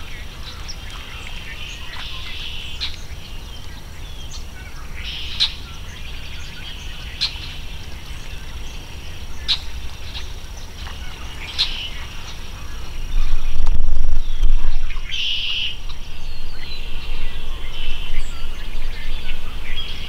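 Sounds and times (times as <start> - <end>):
birds twittering: 0.0 - 20.0
steady low rumble: 0.0 - 20.0.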